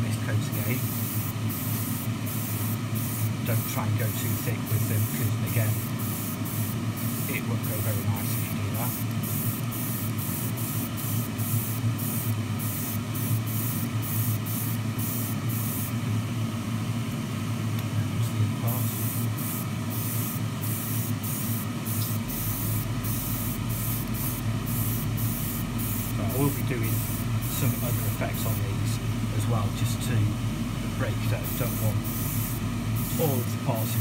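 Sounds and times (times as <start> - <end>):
airbrush spraying hiss: 0.5 - 16.0, 18.7 - 28.8, 31.3 - 34.0.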